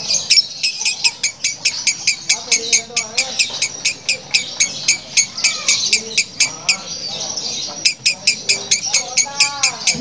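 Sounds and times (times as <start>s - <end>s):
lovebird cackling chatter: 0.1s - 7.0s, 7.7s - 10.0s.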